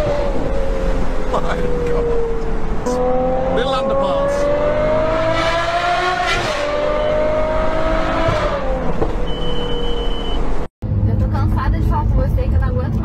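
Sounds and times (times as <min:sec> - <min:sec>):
sports car engine revving: 0:00.0 - 0:10.6.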